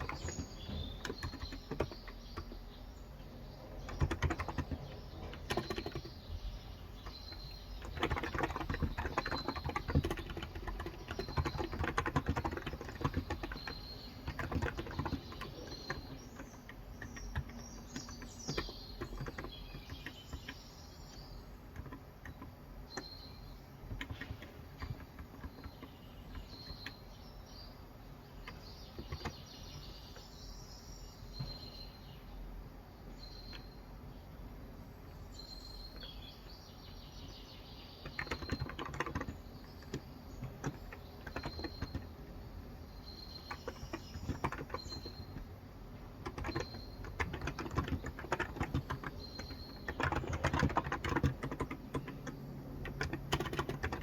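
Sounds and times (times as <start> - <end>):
keyboard typing: 0.0 - 2.7, 3.6 - 27.2, 28.4 - 30.3, 38.0 - 54.0
birds chirping: 0.0 - 54.0.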